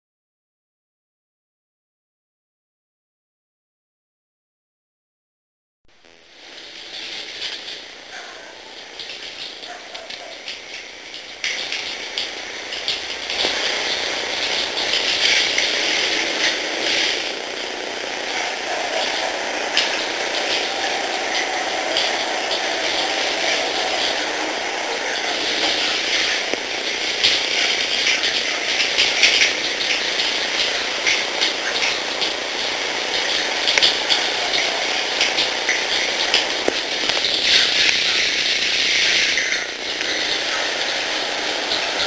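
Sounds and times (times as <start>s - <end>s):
shower spray on wet dog: 6.4s - 42.0s.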